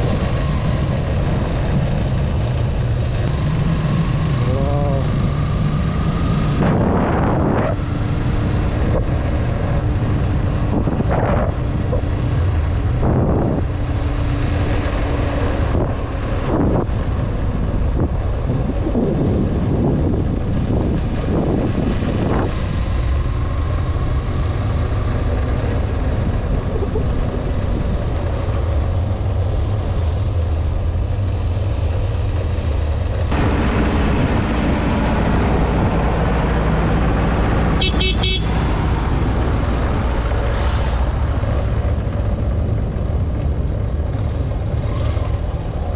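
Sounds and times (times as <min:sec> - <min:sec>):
motorcycle engine running: 0:00.0 - 0:40.3
wind buffeting microphone: 0:05.1 - 0:45.9.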